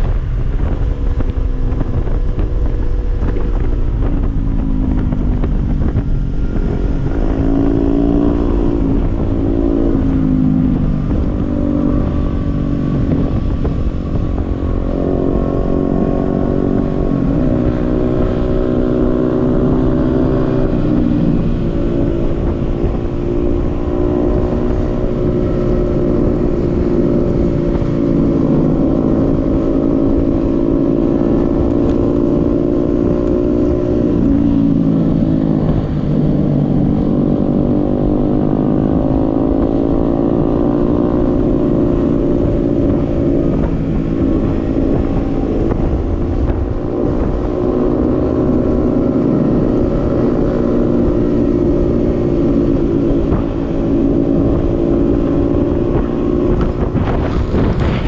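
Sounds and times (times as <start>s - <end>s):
small motorcycle engines revving: 0.0s - 58.0s.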